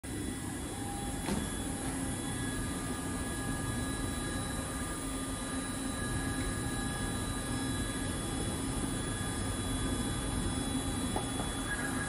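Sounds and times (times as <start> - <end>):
machinery humming and hissing: 0.0 - 12.0
faint whining tones: 0.1 - 12.0.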